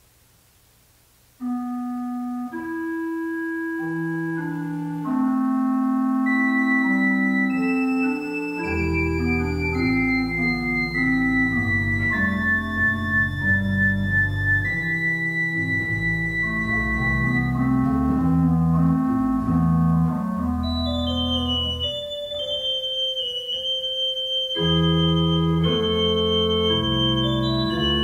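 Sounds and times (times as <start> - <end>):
organ bass line: 1.4 - 28.0
pipe organ sustained chords: 1.4 - 28.0.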